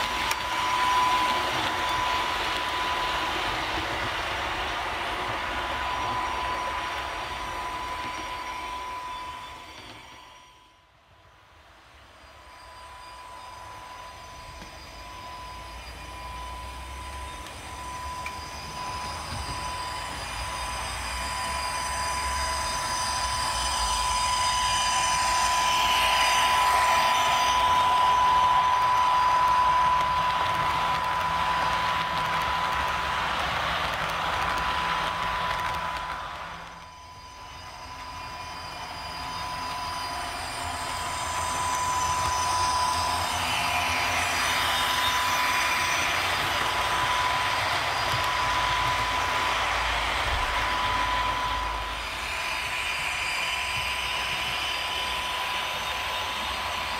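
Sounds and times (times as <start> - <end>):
high whine: 0.0 - 56.9
model train running on track: 0.0 - 56.9.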